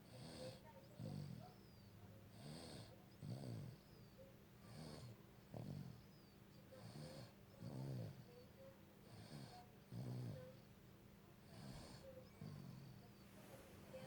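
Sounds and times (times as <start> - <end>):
pet snoring faintly: 0.0 - 4.0, 4.6 - 10.7, 11.4 - 14.0.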